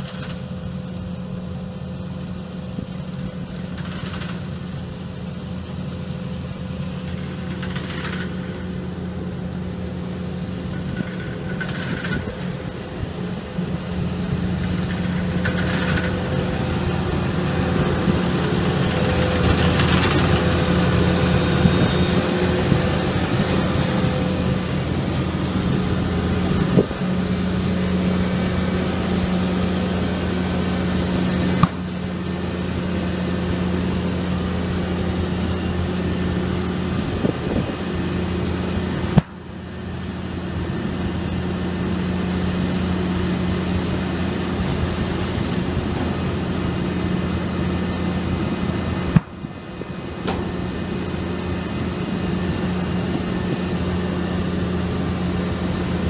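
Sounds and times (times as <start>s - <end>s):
harvester engine drone: 0.0s - 56.0s.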